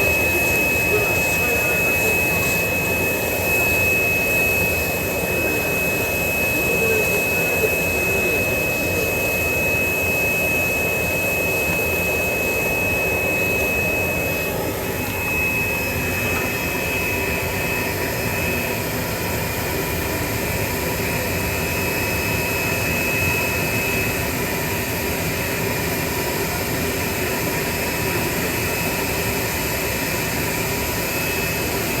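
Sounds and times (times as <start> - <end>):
machine whir: 0.0 - 26.0
high steady whine: 0.0 - 32.0.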